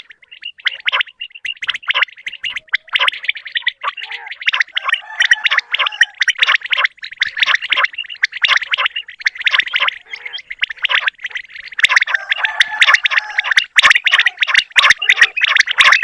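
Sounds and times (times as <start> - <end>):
quails chattering: 0.0 - 16.0.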